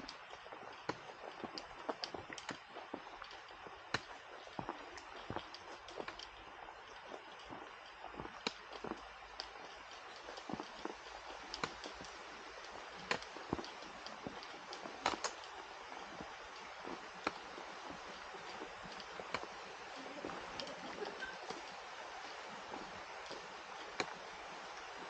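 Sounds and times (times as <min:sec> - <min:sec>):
faint steady hiss: 0:00.0 - 0:25.0
sharp clicks and ticks: 0:00.0 - 0:25.0.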